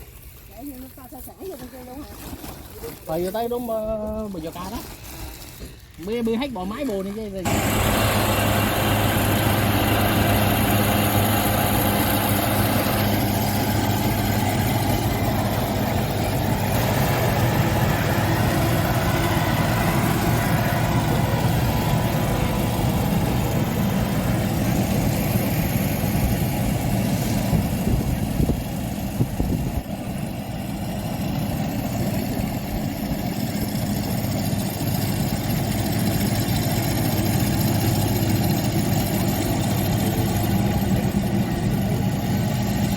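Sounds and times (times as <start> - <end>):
harvesting machine engine humming: 3.2 - 42.9.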